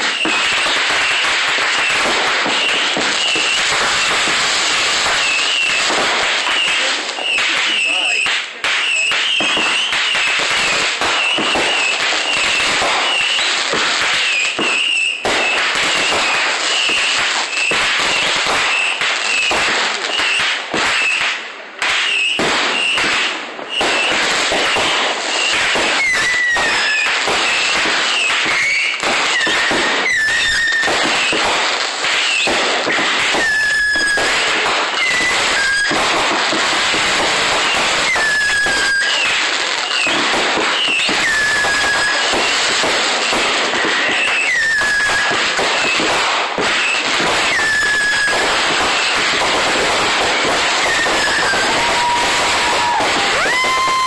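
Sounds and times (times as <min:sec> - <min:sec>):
fireworks bangs and crackling: 0:00.0 - 0:54.0
high fireworks whistles: 0:00.0 - 0:54.0.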